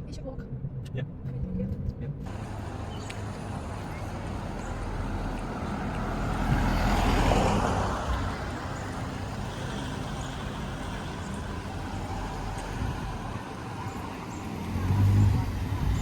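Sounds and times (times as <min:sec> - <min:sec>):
road traffic rumble: 0:02.2 - 0:16.0
vehicle passing: 0:02.3 - 0:16.0.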